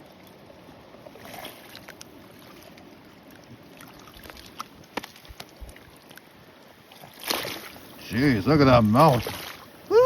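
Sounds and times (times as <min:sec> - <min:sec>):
river water flowing: 0:00.0 - 0:10.0.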